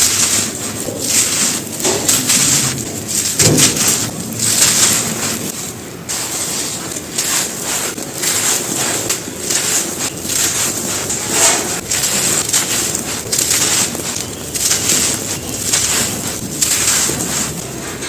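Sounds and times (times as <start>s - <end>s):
chalky chunks crunching by hand: 0.0s - 18.0s.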